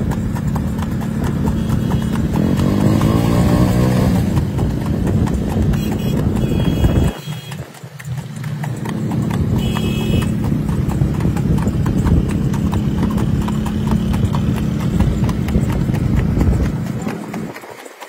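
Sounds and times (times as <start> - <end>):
horse hooves trotting on asphalt: 0.0 - 18.0.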